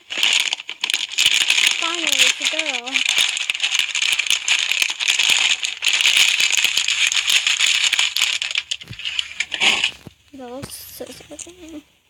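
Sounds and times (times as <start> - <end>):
slime crackling and popping: 0.0 - 11.8.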